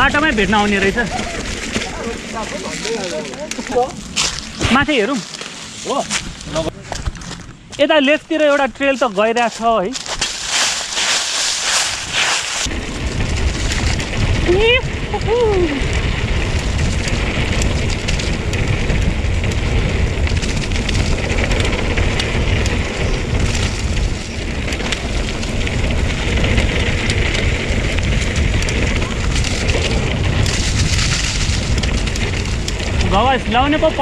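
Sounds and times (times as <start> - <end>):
wind buffeting microphone: 0.0 - 8.9, 9.5 - 34.0
tyres crunching on dirt: 0.0 - 14.4, 16.0 - 34.0
bike rattling: 0.0 - 34.0.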